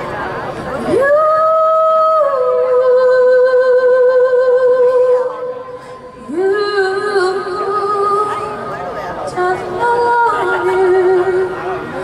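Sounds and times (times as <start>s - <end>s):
woman singing into microphone: 0.8s - 11.8s.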